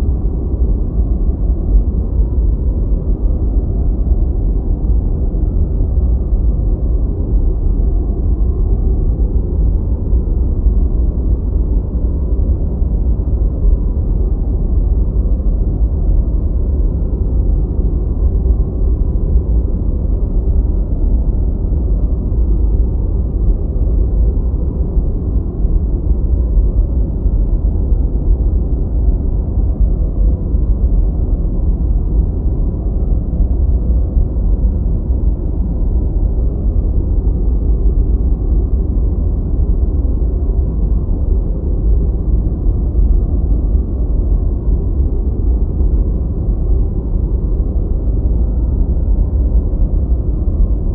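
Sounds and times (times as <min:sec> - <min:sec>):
deep white noise: 0:00.0 - 0:50.9.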